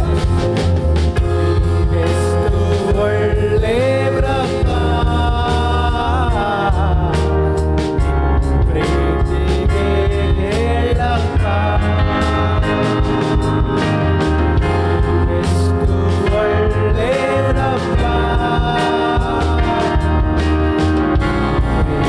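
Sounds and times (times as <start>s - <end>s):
band with bass and drums: 0.0s - 22.0s
person singing: 0.0s - 22.0s.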